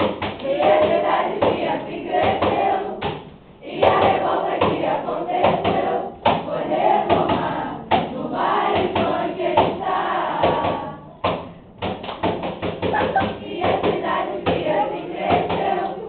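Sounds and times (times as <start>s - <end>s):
group of voices singing: 0.0s - 11.4s, 13.0s - 16.0s
rhythmic percussive thumps: 0.0s - 15.9s.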